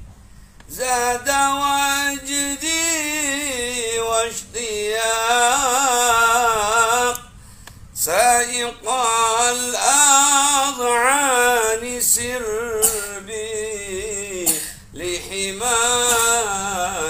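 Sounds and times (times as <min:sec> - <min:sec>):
man singing unaccompanied: 0:00.7 - 0:07.4, 0:08.0 - 0:17.0.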